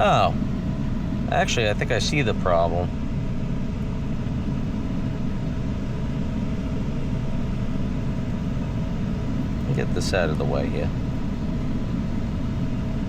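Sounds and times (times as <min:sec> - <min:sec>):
pickup engine running: 0:00.0 - 0:13.0.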